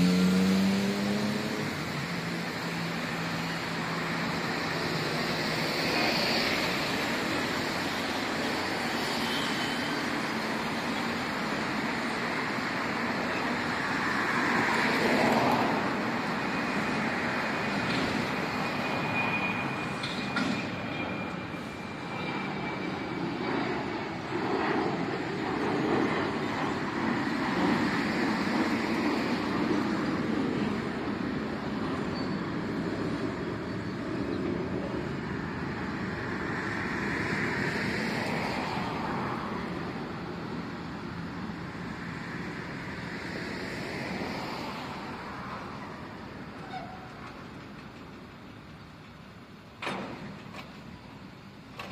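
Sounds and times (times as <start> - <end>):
jet airliner passing overhead: 0.0 - 48.7
diesel machinery and trucks running: 0.0 - 51.9.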